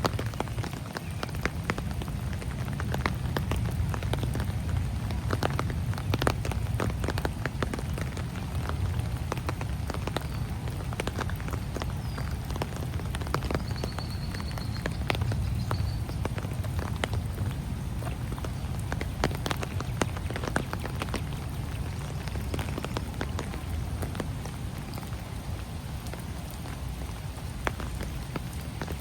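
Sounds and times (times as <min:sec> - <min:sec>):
rain falling: 0:00.0 - 0:29.0
raindrops ticking: 0:00.0 - 0:29.0.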